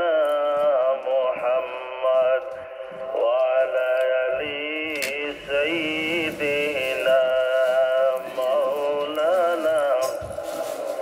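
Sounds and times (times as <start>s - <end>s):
person singing over music: 0.0s - 11.0s.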